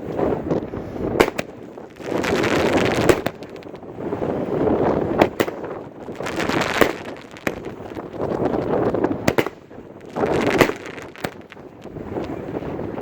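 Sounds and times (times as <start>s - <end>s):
rushing noise of fireworks: 0.0s - 13.0s
firework cake bangs: 1.1s - 12.8s.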